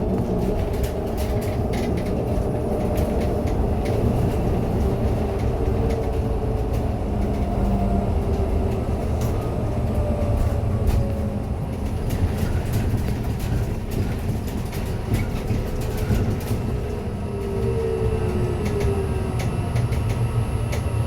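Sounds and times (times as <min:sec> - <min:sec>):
rattles and clicks: 0:00.0 - 0:07.7, 0:08.3 - 0:20.9
bus tyres rumbling on road: 0:00.0 - 0:21.0.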